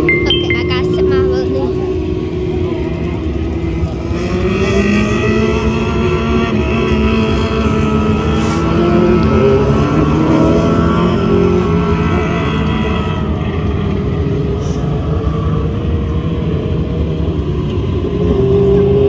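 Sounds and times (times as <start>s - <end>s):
race car engines: 0.0s - 19.0s.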